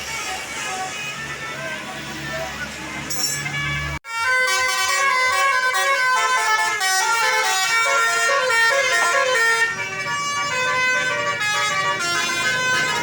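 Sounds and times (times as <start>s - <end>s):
musical bus horn melody: 0.0s - 13.0s.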